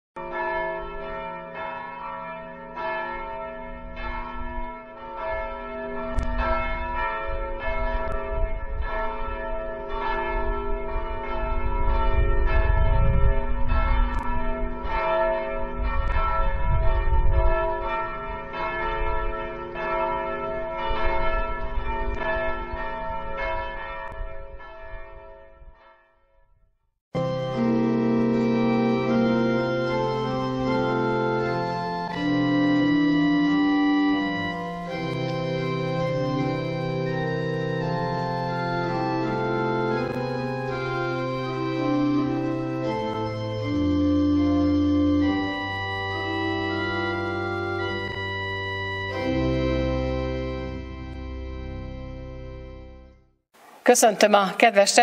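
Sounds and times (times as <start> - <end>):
church bells pealing: 0.2 - 26.0, 27.2 - 53.1.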